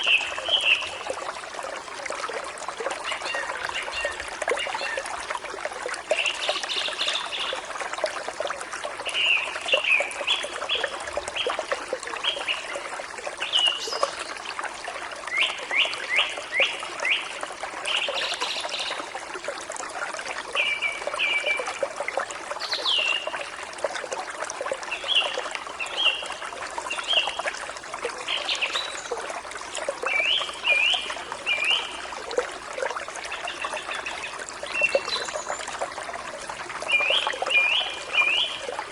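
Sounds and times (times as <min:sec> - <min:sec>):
stream running: 0:00.0 - 0:38.9.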